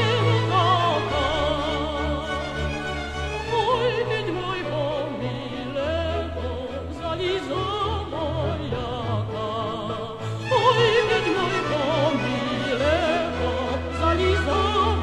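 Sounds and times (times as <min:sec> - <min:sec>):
orchestral accompaniment: 0:00.0 - 0:15.0
woman singing opera: 0:00.0 - 0:15.0.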